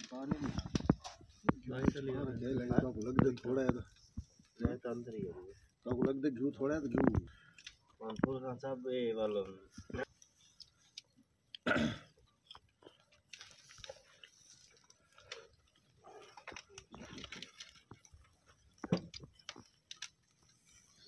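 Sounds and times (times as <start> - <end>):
grill clicks and crackles: 0.0 - 21.0.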